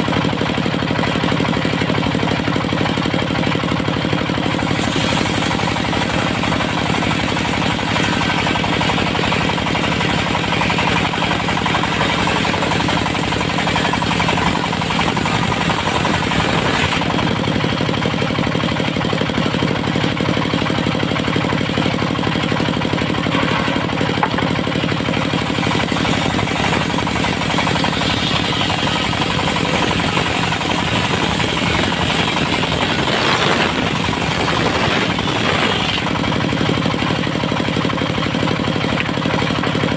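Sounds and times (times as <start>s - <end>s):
saw blade whining through wood: 0.0s - 39.9s
sawmill engine knocking: 0.0s - 39.9s.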